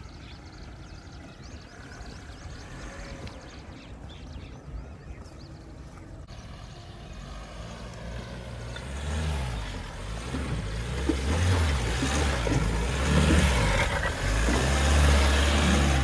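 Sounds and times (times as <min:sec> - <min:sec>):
off-road vehicle engine revving: 0:00.0 - 0:04.6, 0:06.2 - 0:16.0.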